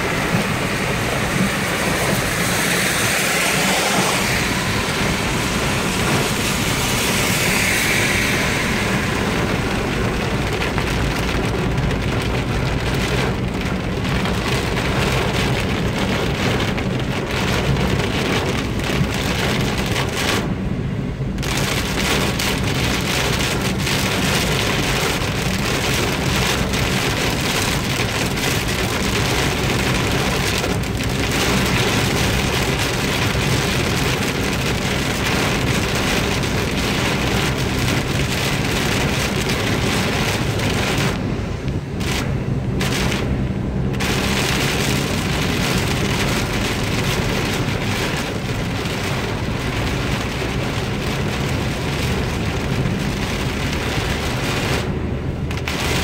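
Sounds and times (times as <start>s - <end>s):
engine and tyre rumble: 0.0s - 56.0s
heavy rain on car roof: 0.0s - 56.0s.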